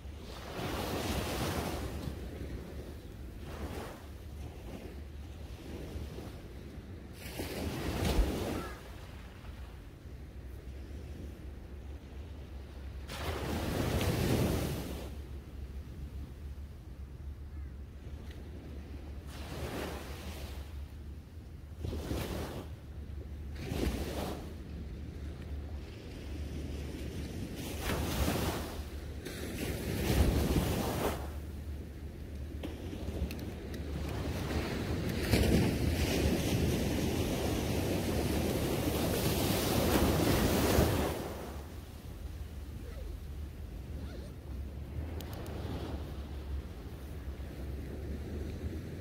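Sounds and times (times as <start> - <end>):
small waves breaking on sand: 0.0 - 16.1, 18.0 - 20.8, 21.7 - 22.9, 23.5 - 49.0
wind rumble on microphone: 0.0 - 49.0.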